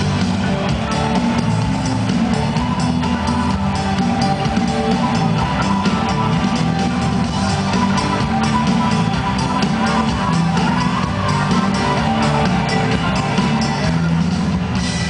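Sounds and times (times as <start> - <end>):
drum kit: 0.0 - 15.0
guitar: 0.0 - 15.0
live band music: 0.0 - 15.0.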